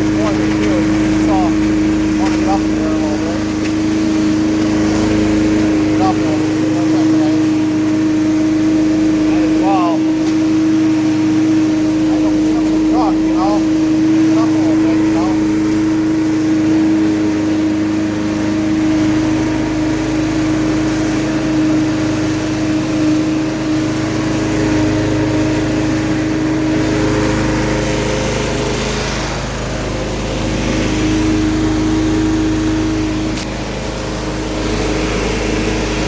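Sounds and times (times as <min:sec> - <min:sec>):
leaf vacuum engine droning: 0:00.0 - 0:36.0.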